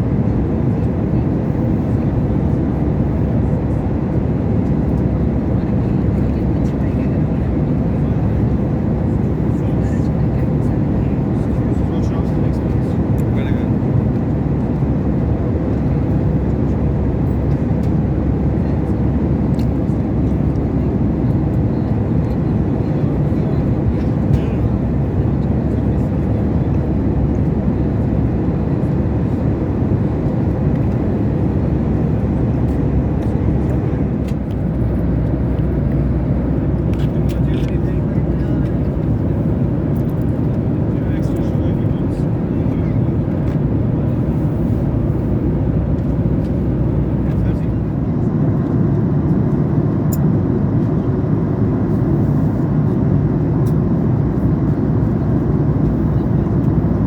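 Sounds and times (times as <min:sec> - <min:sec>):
airplane cabin airflow and engine: 0:00.0 - 0:57.0.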